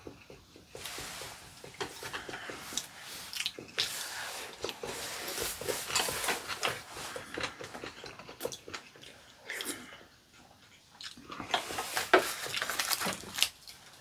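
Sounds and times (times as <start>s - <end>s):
people chewing and slurping: 0.0s - 14.0s.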